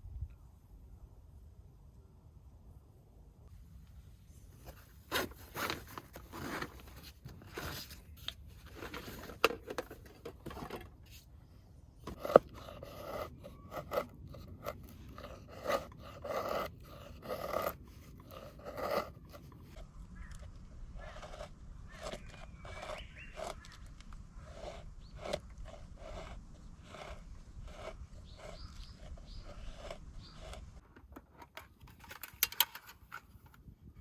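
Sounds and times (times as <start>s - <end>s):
rustling and scraping: 3.9s - 33.7s.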